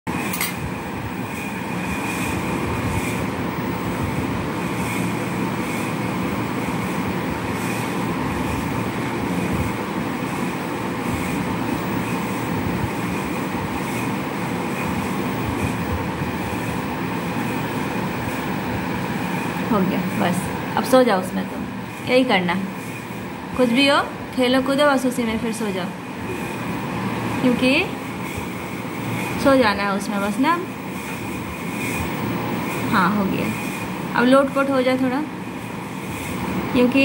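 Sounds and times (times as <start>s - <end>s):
machinery hum and hiss: 0.1s - 37.0s.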